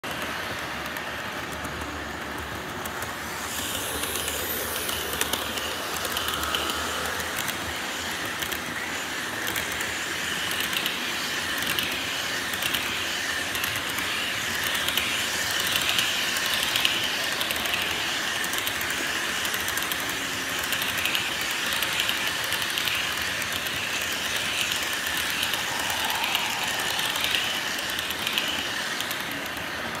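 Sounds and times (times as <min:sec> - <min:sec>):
model train wheels clicking on track: 0:00.0 - 0:30.0.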